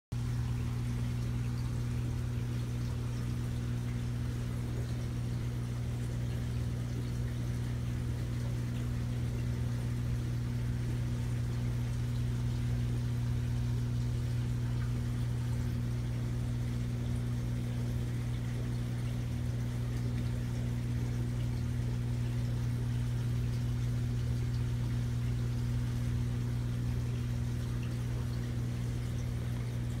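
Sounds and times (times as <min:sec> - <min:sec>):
aquarium pump humming: 0:00.1 - 0:30.0.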